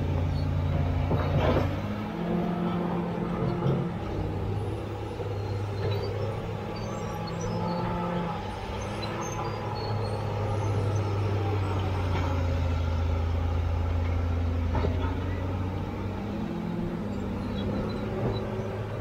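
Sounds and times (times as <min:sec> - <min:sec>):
bulldozer diesel engine under load: 0:00.0 - 0:19.0.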